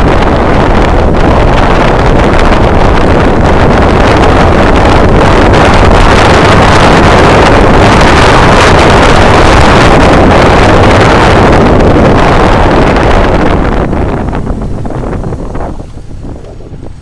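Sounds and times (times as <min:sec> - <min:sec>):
motorcycle engine drone: 0:00.0 - 0:17.0
wind rush buffeting camera: 0:00.0 - 0:17.0.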